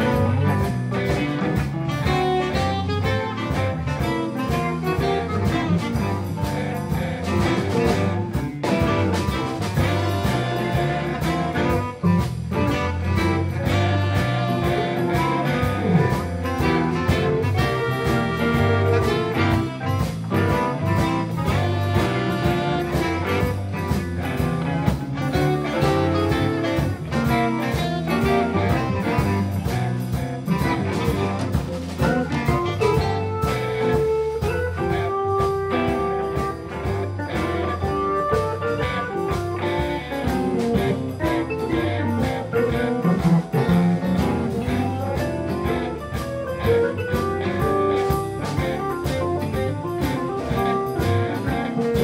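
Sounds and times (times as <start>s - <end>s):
bass guitar: 0.0s - 52.0s
drum kit: 0.0s - 52.0s
electric guitars: 0.0s - 52.0s
keyboard: 0.0s - 52.0s.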